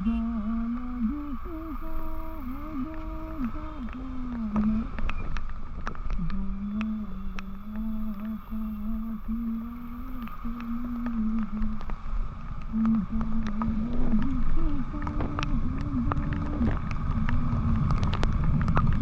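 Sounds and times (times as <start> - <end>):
person humming: 0.0 - 5.0, 6.2 - 11.9, 12.7 - 17.9
wind and road rumble: 0.0 - 19.0
sharp ticks: 0.8 - 19.0.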